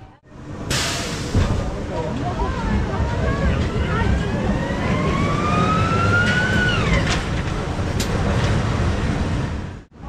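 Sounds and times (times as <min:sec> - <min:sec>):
roller coaster rumbling on track: 0:00.2 - 0:10.0.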